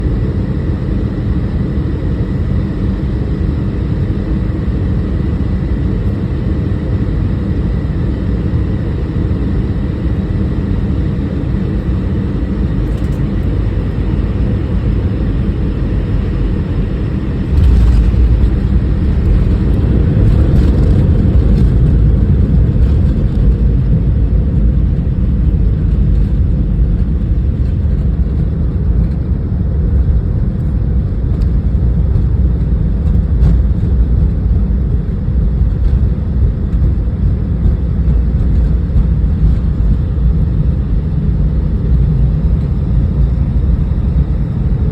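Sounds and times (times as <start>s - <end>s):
airliner engines and airflow rumble: 0.0s - 44.9s.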